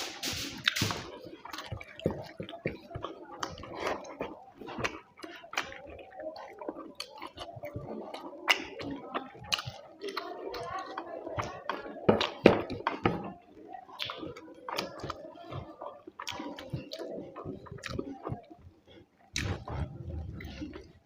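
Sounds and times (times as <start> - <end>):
wet chewing and lip smacking: 0.6 - 21.0.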